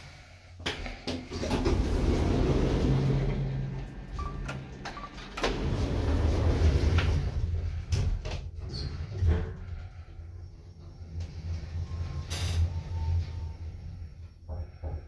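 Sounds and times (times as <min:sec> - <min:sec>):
elevator doors sliding: 0:00.7 - 0:15.0
low motor hum: 0:01.3 - 0:15.0.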